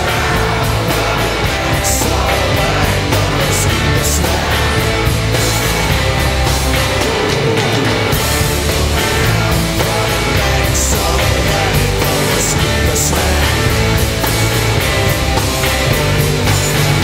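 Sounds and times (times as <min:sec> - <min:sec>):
bass line: 0:00.0 - 0:17.0
drums: 0:00.0 - 0:17.0
rock band playing live: 0:00.0 - 0:17.0.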